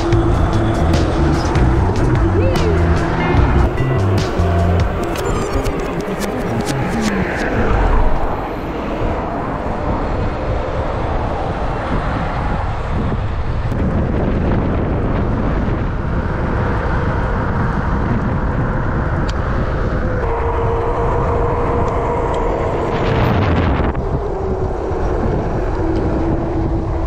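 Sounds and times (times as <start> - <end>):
tyre and road noise: 0.0 - 27.0
wind buffeting microphone: 0.0 - 27.0.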